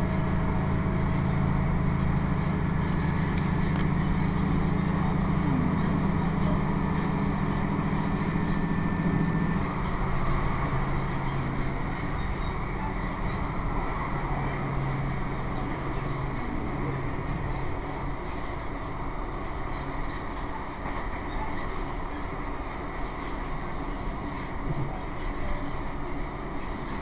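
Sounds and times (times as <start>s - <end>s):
train engine drone: 0.0s - 27.0s
wheels rumbling on track: 0.0s - 27.0s.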